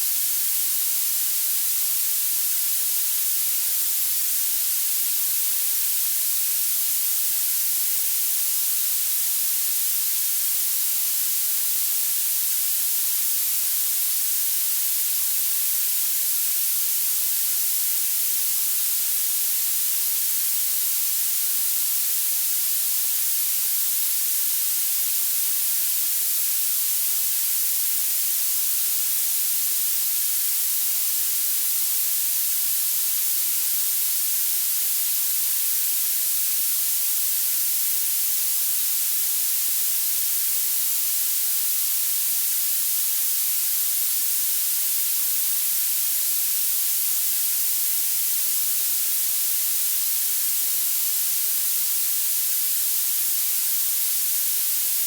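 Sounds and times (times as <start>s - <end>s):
steady high-pitched hiss: 0.0s - 55.0s.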